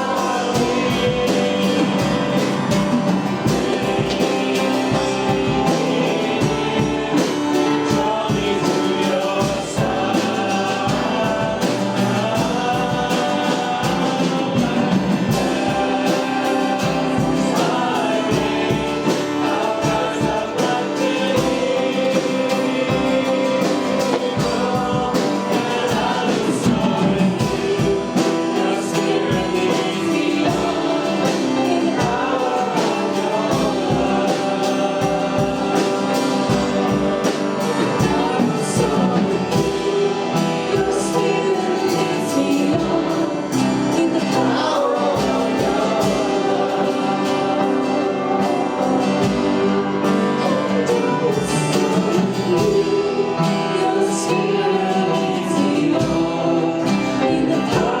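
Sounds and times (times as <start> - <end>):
congregation singing with instruments: 0.0 - 58.0.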